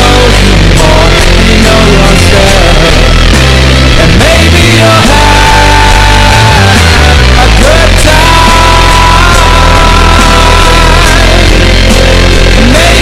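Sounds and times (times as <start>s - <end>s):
high lead line notes: 0.0s - 13.0s
rock band playing loudly: 0.0s - 13.0s.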